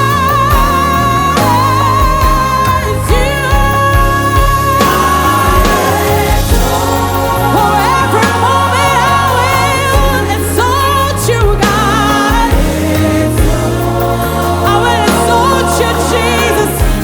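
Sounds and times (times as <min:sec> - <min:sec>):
gospel worship music: 0:00.0 - 0:17.0.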